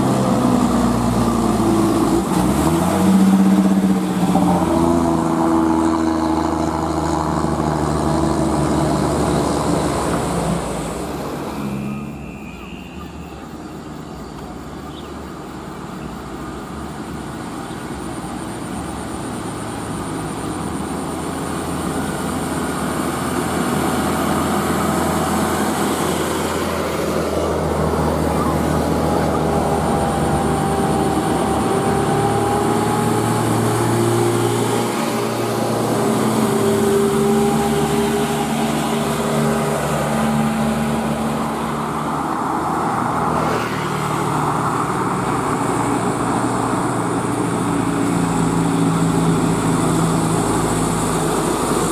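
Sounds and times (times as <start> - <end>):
truck diesel engine labouring: 0.0 - 51.9.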